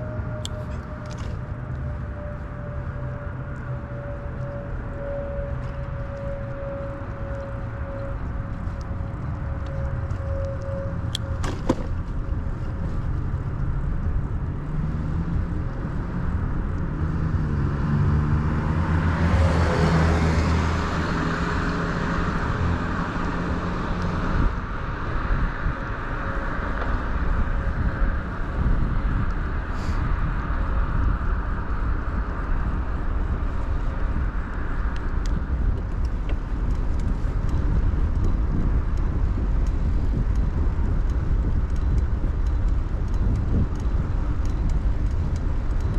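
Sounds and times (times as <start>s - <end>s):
wind and bicycle tyres rumbling: 0.0s - 45.9s.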